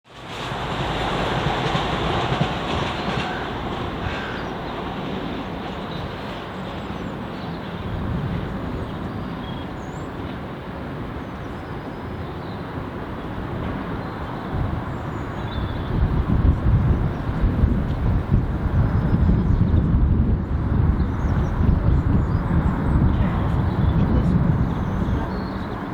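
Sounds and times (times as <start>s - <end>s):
train wheels rumbling on rails: 0.0s - 25.9s.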